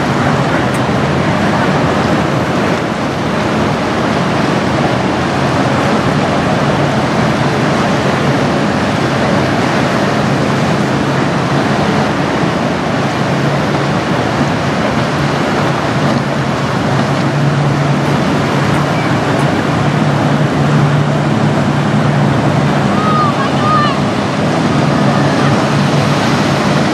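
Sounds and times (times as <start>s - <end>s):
boat engine drone: 0.0s - 26.9s
water rushing: 0.0s - 26.9s
wind noise: 0.0s - 26.9s.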